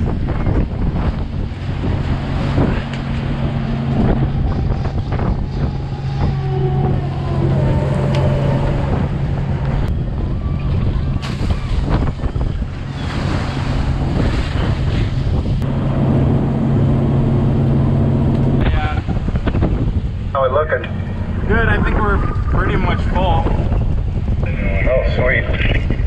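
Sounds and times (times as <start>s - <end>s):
seawater rushing and splashing: 0.0s - 26.0s
ship engine droning: 0.0s - 26.0s
wind buffeting microphone: 0.0s - 26.0s.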